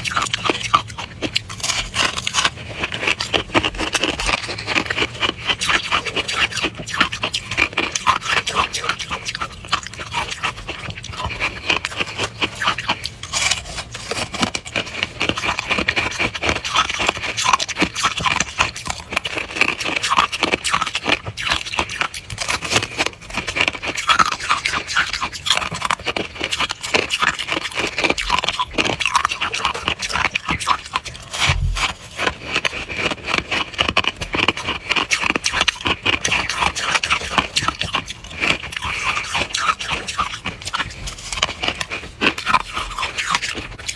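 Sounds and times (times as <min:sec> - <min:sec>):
crunching freezer frost: 0:00.0 - 0:43.9.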